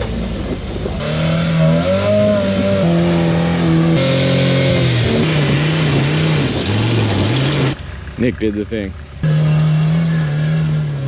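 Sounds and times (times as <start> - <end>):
engines revving hard: 0.0 - 7.9, 9.2 - 11.0.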